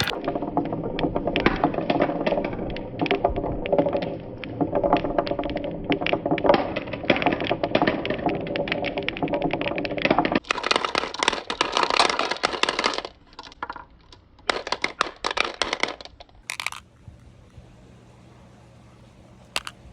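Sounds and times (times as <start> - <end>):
balls clattering down marble run: 0.0 - 17.6, 19.4 - 19.8.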